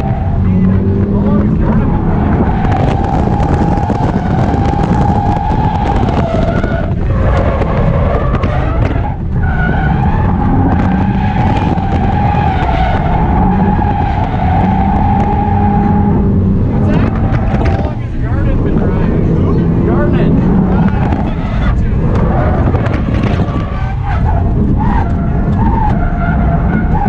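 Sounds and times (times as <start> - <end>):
car engine at high revs: 0.0 - 27.0.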